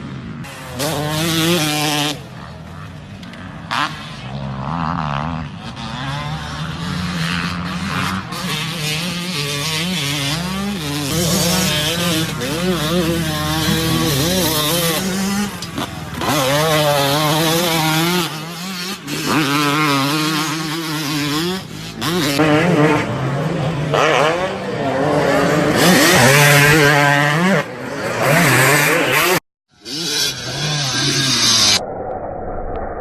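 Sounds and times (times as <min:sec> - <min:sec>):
motocross bike engines revving: 0:00.0 - 0:31.8.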